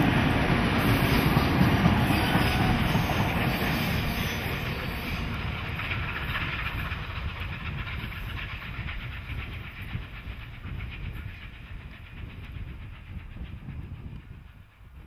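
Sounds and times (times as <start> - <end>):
steam hissing: 0.0 - 14.9
train wheels clicking over rails: 0.0 - 15.0.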